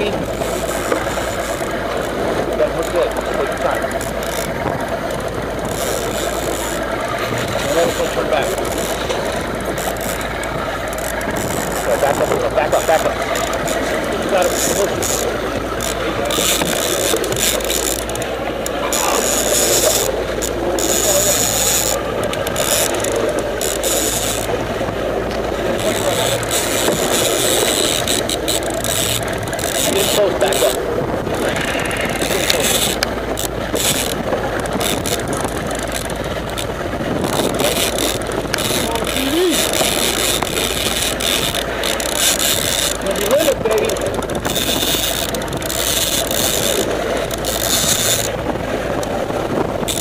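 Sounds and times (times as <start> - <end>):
fishing reel ratcheting: 0.0 - 49.1, 49.8 - 50.0
boat engine running: 0.0 - 50.0
wind and water rushing: 0.0 - 50.0.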